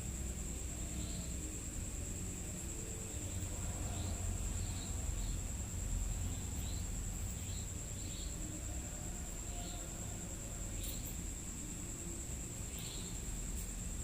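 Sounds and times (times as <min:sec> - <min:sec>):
insects trilling: 0:00.0 - 0:14.0
short insect chirps: 0:00.0 - 0:14.0.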